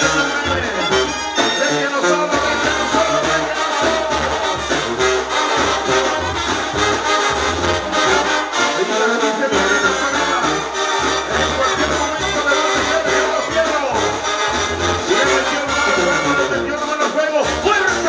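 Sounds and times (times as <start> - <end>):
brass band music: 0.0 - 18.0.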